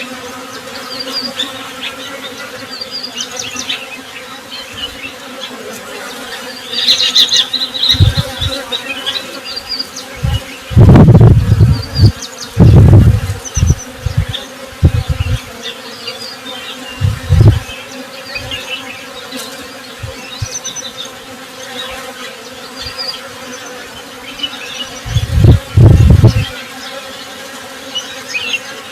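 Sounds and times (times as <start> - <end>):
bees buzzing: 0.0 - 28.9.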